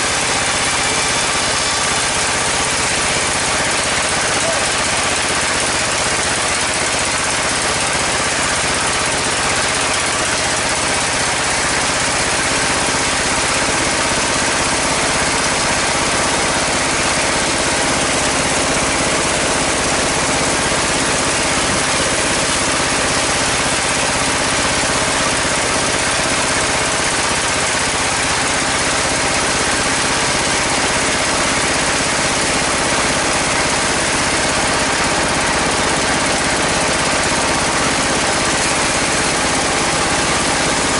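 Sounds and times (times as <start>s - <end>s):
band saw running steadily: 0.0s - 40.9s.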